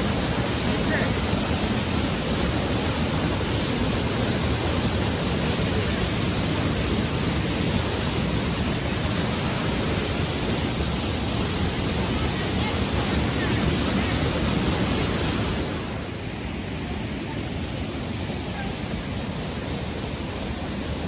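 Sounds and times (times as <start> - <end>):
waterfall and river rushing: 0.0 - 21.0.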